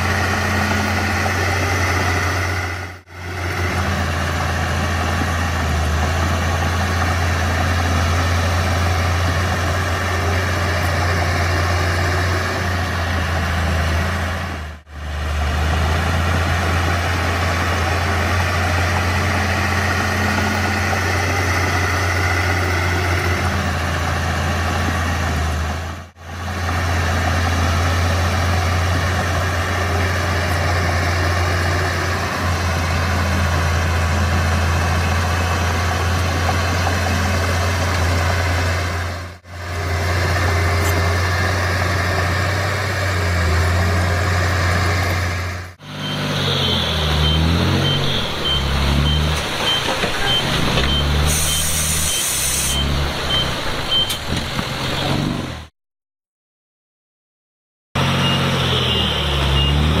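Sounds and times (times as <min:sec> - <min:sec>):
bulldozer diesel engine droning: 0:00.0 - 0:55.7, 0:58.0 - 1:00.0.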